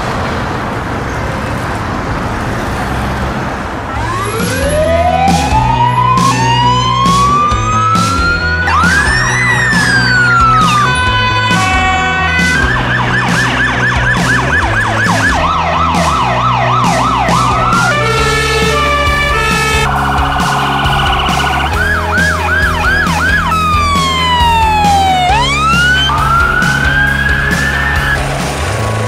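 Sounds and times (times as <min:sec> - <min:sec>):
emergency vehicle sirens: 0:03.6 - 0:29.0
background music with steady beat: 0:04.0 - 0:29.0.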